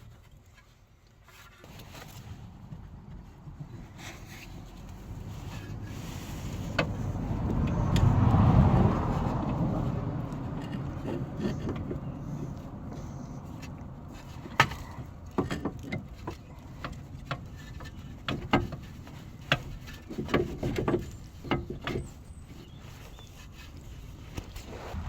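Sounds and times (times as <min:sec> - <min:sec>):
vehicle: 0:00.0 - 0:25.0.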